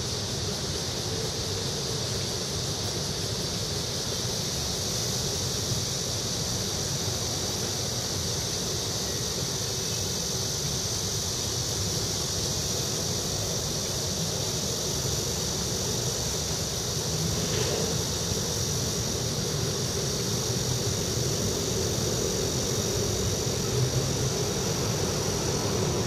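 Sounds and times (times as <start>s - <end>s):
distant traffic rumble: 0.0s - 26.0s
high-pitched hiss: 0.0s - 26.0s.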